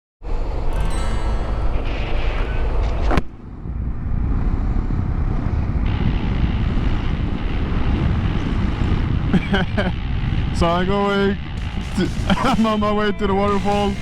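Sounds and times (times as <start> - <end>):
motorcycle engine rumble: 0.3 - 14.0
wind buffeting microphone: 1.7 - 14.0.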